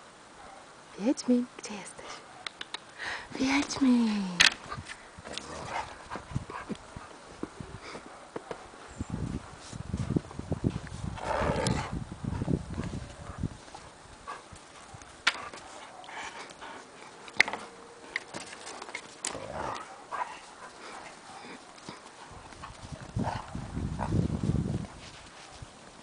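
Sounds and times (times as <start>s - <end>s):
dogs playing: 4.4s - 26.0s.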